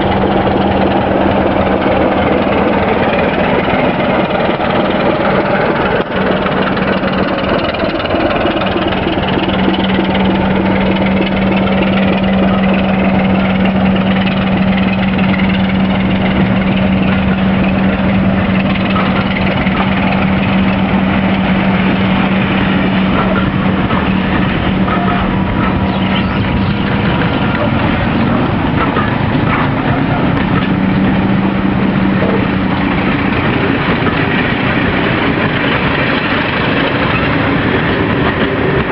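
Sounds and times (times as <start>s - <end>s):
diesel locomotive engine drone: 0.0s - 38.9s.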